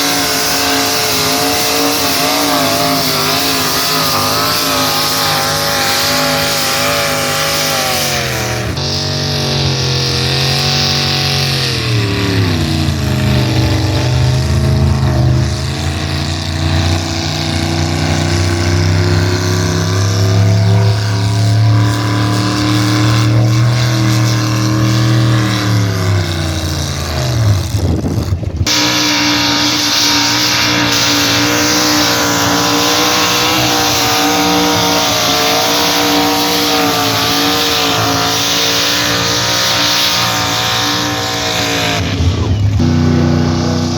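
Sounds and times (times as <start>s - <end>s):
engine running steadily: 0.0s - 43.9s
pulling tractor engine running hard: 0.0s - 43.9s.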